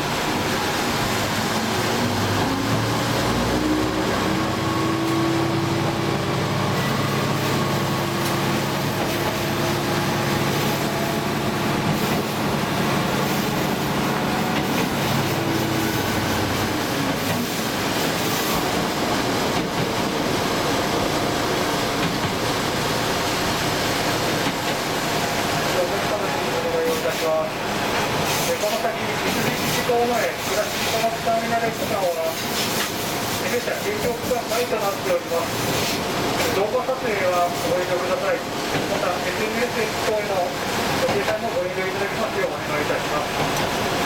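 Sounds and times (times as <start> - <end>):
wheels rumbling on rails: 0.0 - 36.7
diesel train engine: 0.0 - 44.0.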